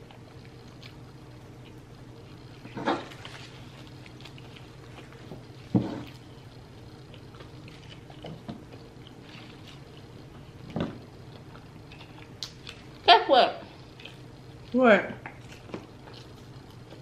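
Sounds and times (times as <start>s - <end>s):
low steady hum: 0.0s - 17.0s
people chewing food: 0.0s - 17.0s.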